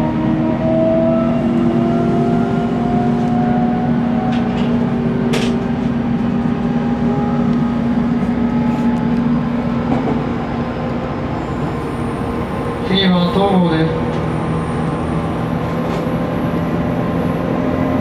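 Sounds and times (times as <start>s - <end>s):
wheel and rail rumble: 0.0s - 18.0s.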